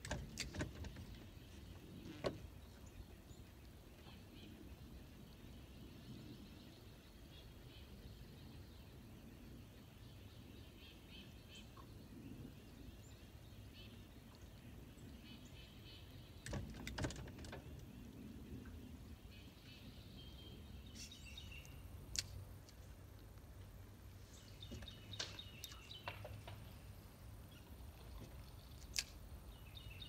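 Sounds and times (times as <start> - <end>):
low outdoor hum: 0.0 - 30.0.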